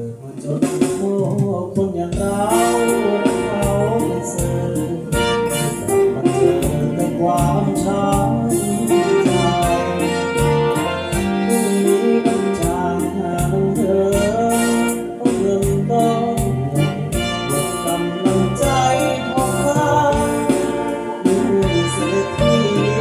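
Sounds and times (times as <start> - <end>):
acoustic guitar: 0.0 - 23.0
band backing track with drums: 0.0 - 23.0.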